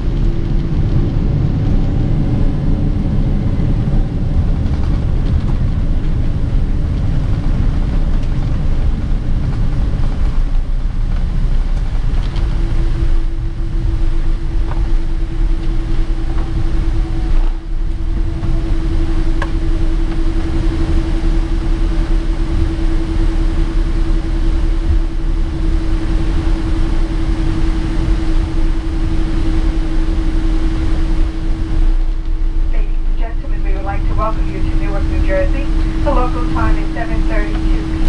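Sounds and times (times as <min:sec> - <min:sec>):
airplane engines and wheels rumbling: 0:00.0 - 0:38.0
steady cabin hum: 0:00.0 - 0:38.0.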